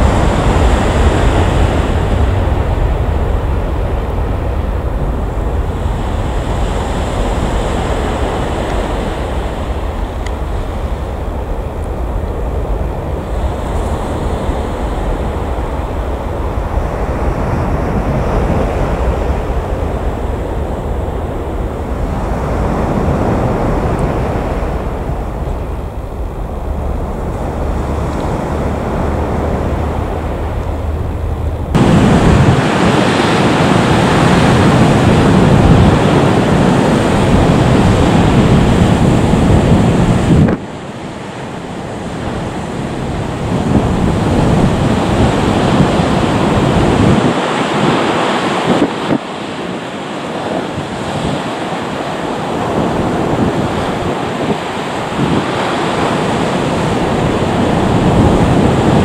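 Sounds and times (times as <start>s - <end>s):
jet engines rushing: 0.0s - 59.0s
wind buffeting microphone: 0.0s - 59.0s.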